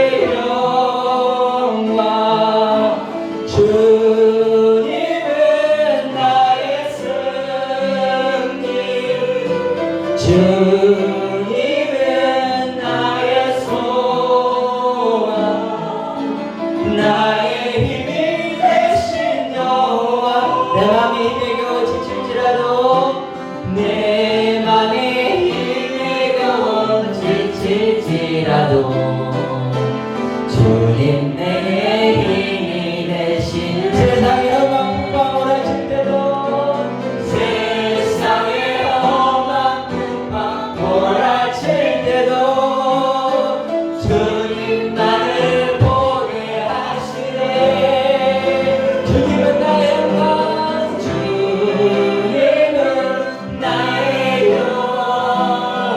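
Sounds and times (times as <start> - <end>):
group singing worship song: 0.0 - 55.9.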